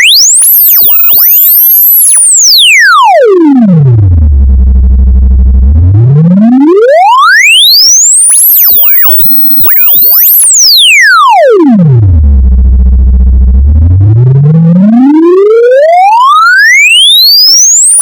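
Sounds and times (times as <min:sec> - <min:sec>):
sine tone sweeping in pitch: 0:00.0 - 0:18.0.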